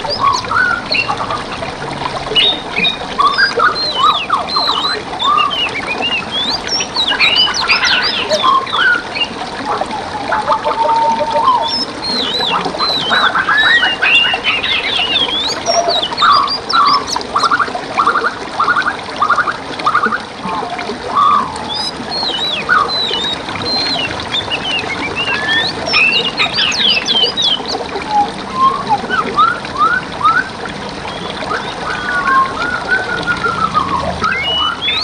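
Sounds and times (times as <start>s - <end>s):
running water rushing: 0.0s - 35.0s
songbirds singing and calling: 0.0s - 35.0s.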